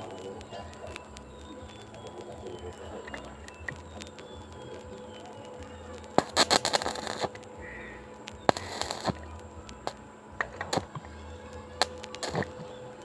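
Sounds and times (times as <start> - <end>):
electric arc welding crackle: 0.0 - 13.0
steady low hum: 0.0 - 13.0
stray clicks: 0.0 - 13.0.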